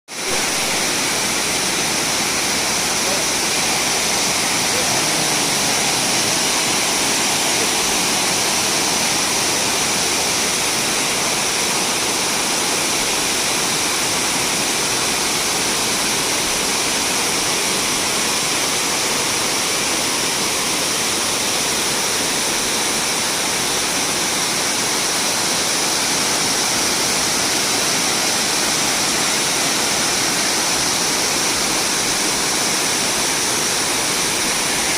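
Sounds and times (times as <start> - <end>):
waterfall pouring: 0.2 - 34.9.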